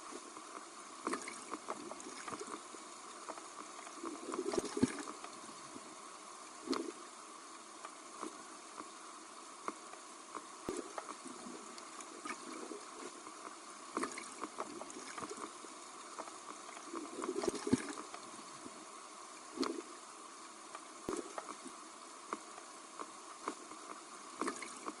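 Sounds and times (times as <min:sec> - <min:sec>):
underwater hiss: 0:00.0 - 0:25.0.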